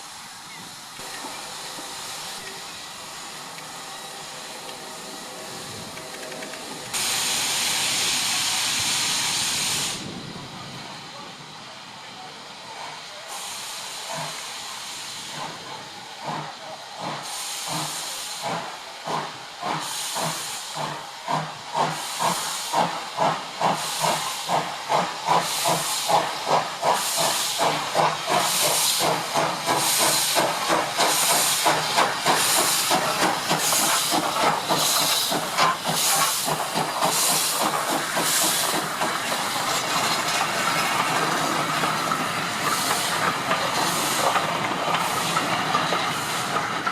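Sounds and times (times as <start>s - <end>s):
steam hissing: 0.0s - 46.9s
steam locomotive exhaust beats: 0.0s - 46.9s.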